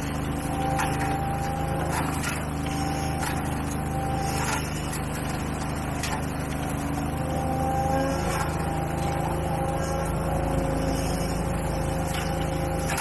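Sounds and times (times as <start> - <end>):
gasoline engine running: 0.0 - 13.0.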